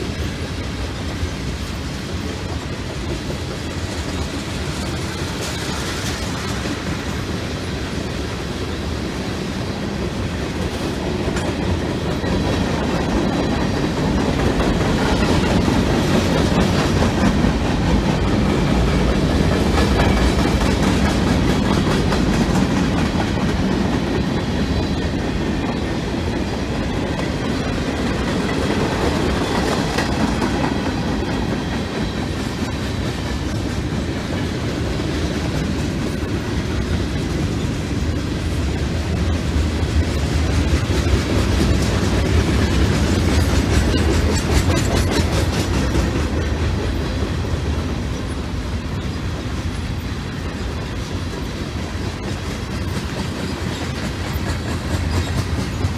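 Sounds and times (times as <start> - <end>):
freight train wheels clacking: 0.0 - 55.9.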